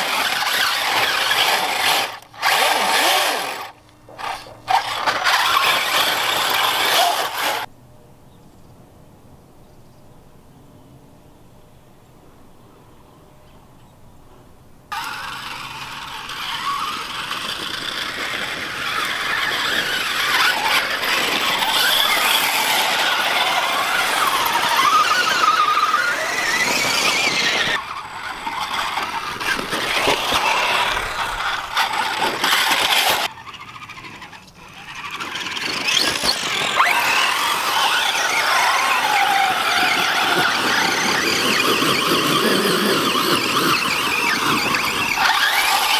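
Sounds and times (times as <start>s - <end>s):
rc car motors whining: 0.0s - 7.7s, 14.9s - 45.9s.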